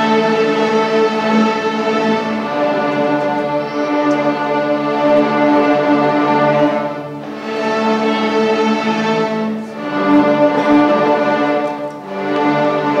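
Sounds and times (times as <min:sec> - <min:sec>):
string orchestra playing held notes: 0:00.0 - 0:13.0.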